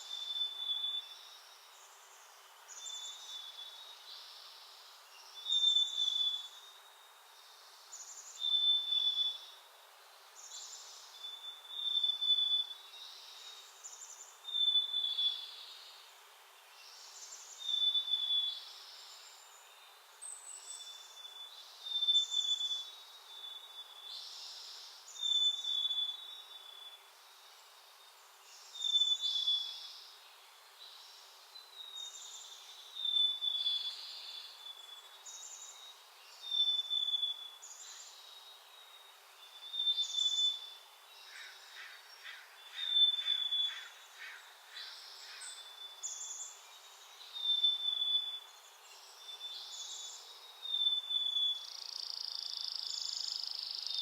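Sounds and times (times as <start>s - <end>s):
songbirds calling: 10.4s - 54.0s.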